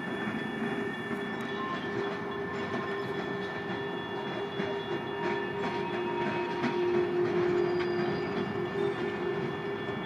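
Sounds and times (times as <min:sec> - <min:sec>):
freight train rumbling past: 0:00.0 - 0:10.0
high wheel-on-rail tones: 0:00.0 - 0:10.0.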